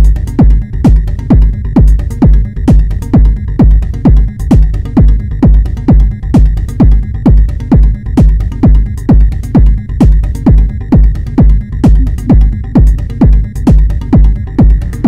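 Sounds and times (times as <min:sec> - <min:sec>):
techno kick drum: 0:00.0 - 0:15.0.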